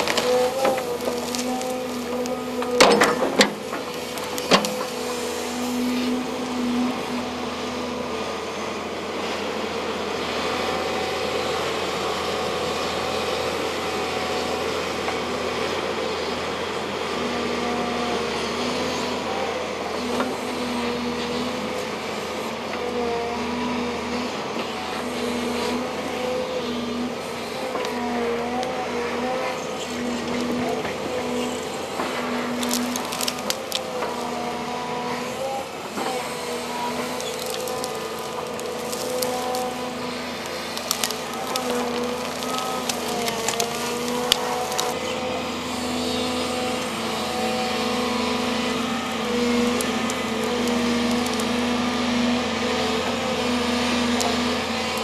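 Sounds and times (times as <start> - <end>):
excavator engine running: 0.0 - 18.0, 24.3 - 55.0.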